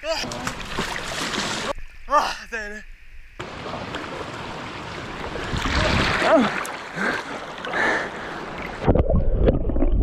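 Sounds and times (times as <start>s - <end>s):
water running and splashing: 0.2s - 1.8s, 3.4s - 10.0s.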